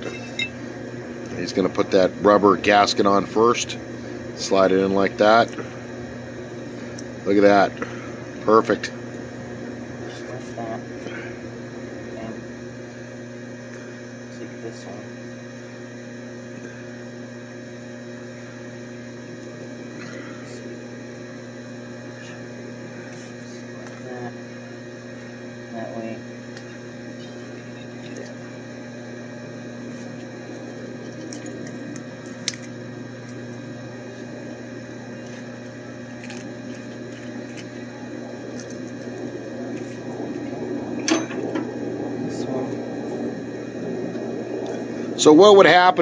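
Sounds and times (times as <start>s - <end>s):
electrical machinery hum: 0.0s - 46.0s.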